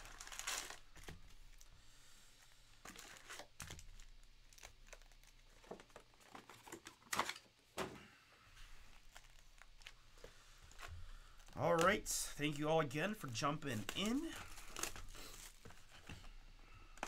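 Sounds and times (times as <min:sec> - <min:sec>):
plastic wrappers crinkling: 0:00.0 - 0:01.7, 0:02.7 - 0:07.5, 0:08.8 - 0:17.0.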